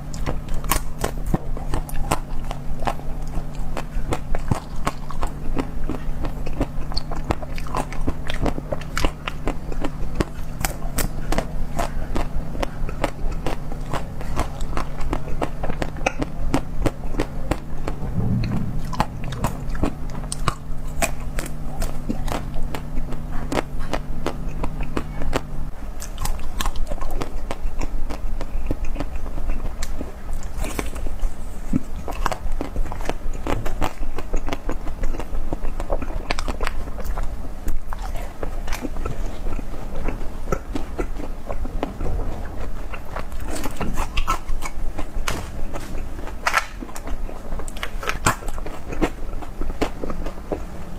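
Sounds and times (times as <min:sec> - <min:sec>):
crunchy bites and chewing: 0:00.0 - 0:50.7
low steady hum: 0:00.0 - 0:50.9.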